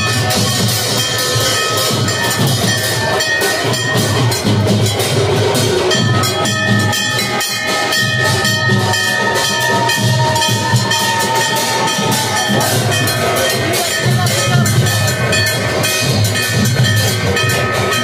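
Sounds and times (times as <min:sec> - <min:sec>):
drum-led festival music: 0:00.0 - 0:18.0.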